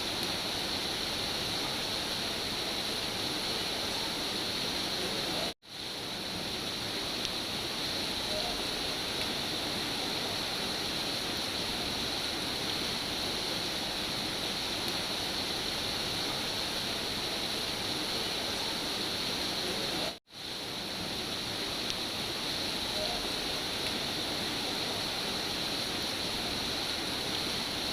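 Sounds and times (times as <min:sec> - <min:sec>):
steady rain: 0:00.0 - 0:27.9.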